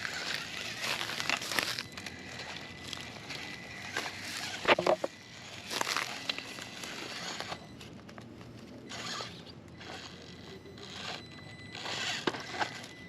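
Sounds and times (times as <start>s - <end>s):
electric motor gear whine: 0.0s - 13.0s
tyres scraping over rough ground: 0.0s - 13.0s.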